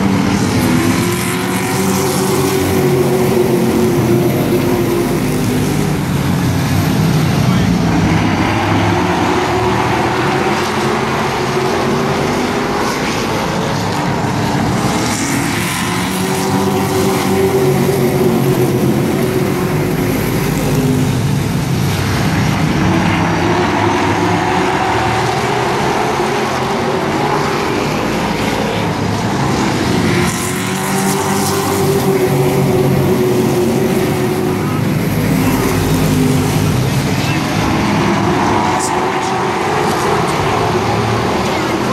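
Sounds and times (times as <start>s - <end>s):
race truck engines: 0.0s - 41.9s.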